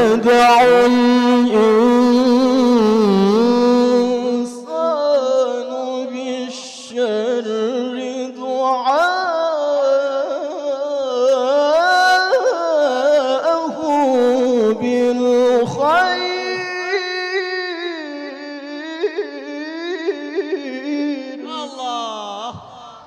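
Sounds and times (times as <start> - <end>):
man chanting melodically: 0.0 - 23.0.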